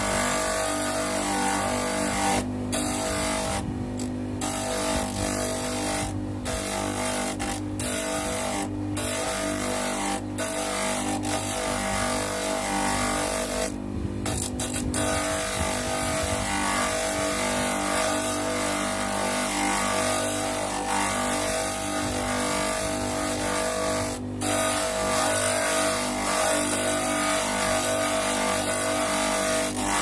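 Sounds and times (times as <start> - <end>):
bench grinder grinding wood: 0.0 - 30.0.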